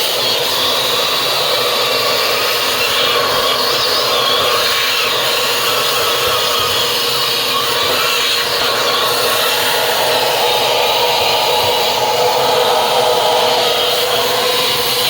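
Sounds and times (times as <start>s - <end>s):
vacuum cleaner motor running: 0.0s - 15.0s.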